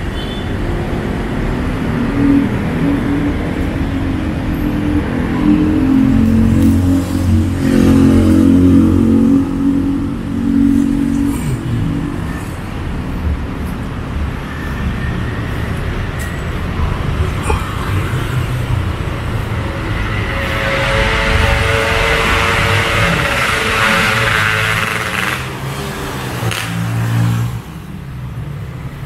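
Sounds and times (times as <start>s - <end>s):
vehicle engine: 0.0s - 29.0s
another vehicle passing: 1.0s - 14.0s, 15.2s - 27.9s.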